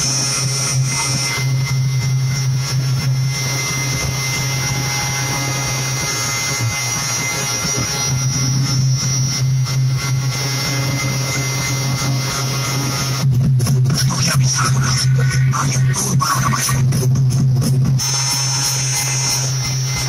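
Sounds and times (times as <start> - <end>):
deep bass drone from speakers: 0.0 - 20.0.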